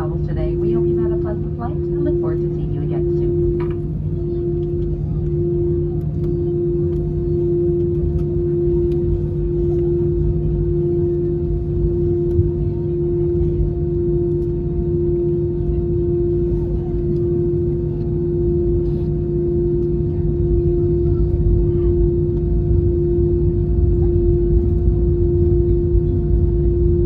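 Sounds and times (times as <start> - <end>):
aircraft engines idling: 0.0 - 27.0.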